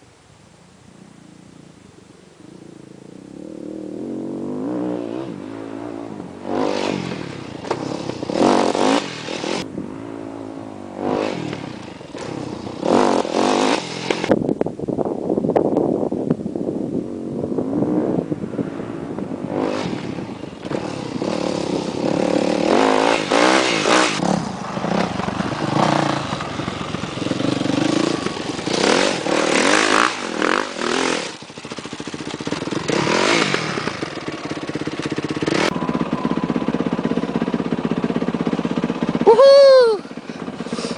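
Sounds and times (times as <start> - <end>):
dirt bike engine revving: 3.3 - 14.3, 17.7 - 40.9.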